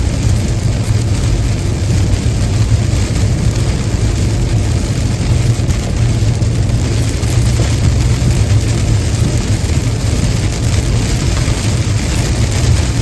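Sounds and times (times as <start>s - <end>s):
car driving at highway speed: 0.0s - 13.0s
tyres hissing on wet road: 0.0s - 13.0s.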